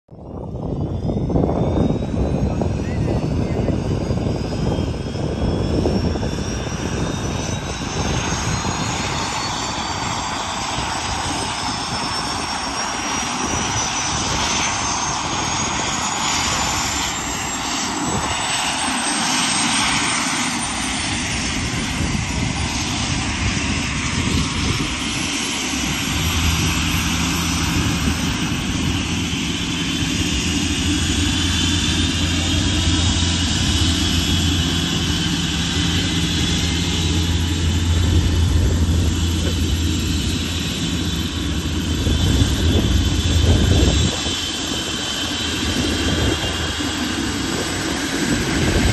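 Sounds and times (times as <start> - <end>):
steady low drone: 0.1 - 48.9
turbine engine whine rising: 0.1 - 48.9.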